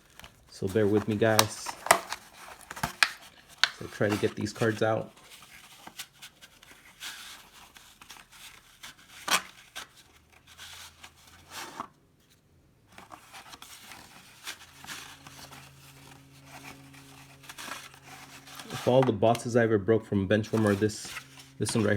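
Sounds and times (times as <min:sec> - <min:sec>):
cards and wrapper scraping: 0:00.0 - 0:19.7, 0:20.3 - 0:21.9.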